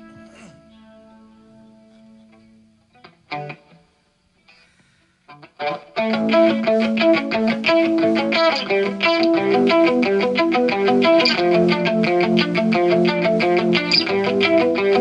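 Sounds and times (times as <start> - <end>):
distorted electric guitar strumming: 0.0 - 4.0, 5.3 - 15.0.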